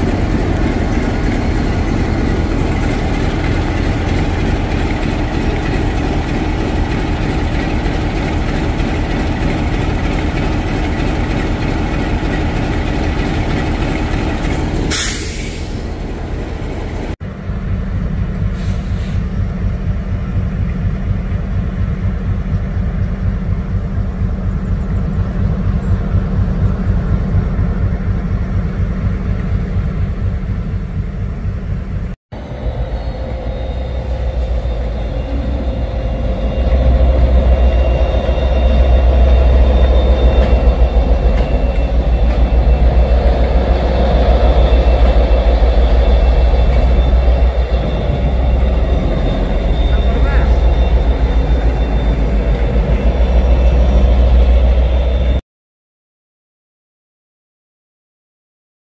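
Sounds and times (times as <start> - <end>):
diesel locomotive engine idling: 0.0 - 55.4
locomotive engine low throb: 0.0 - 55.4
locomotive pulling away whining: 0.0 - 55.4.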